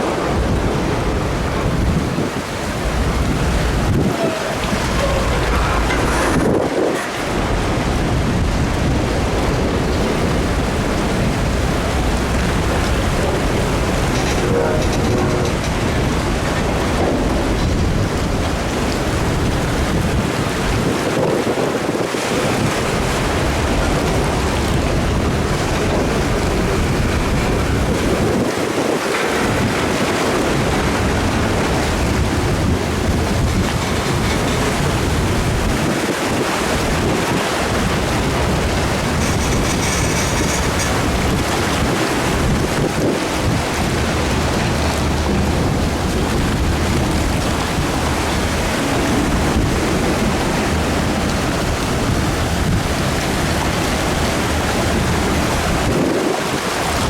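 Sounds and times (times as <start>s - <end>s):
freight train rolling: 0.0s - 56.0s
churning water: 0.0s - 57.0s
wind buffeting microphone: 0.0s - 57.0s.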